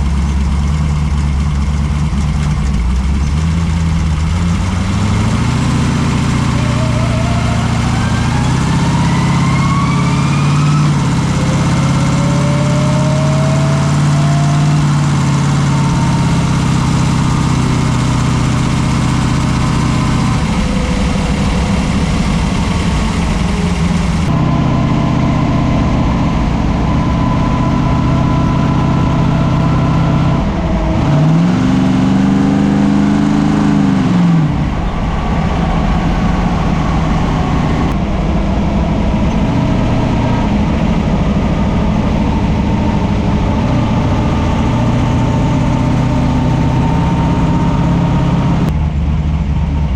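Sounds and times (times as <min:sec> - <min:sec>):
car engine running: 0:00.0 - 0:49.9
rising whines: 0:04.2 - 0:48.8.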